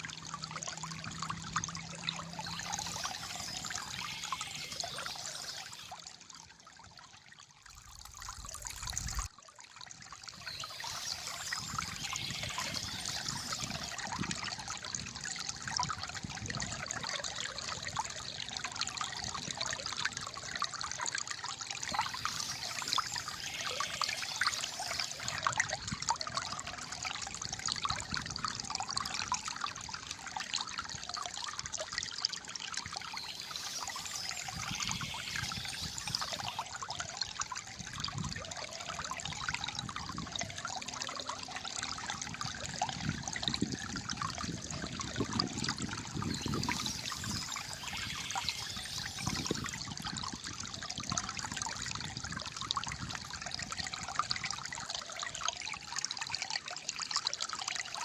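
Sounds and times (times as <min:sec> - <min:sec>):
water trickling and gurgling: 0:00.0 - 0:58.0.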